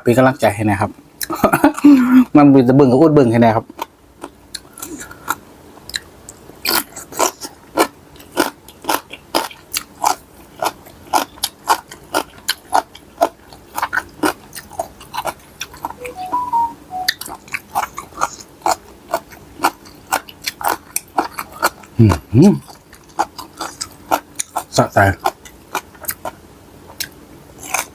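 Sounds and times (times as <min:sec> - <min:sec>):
person chewing and crunching: 0:03.6 - 0:27.9.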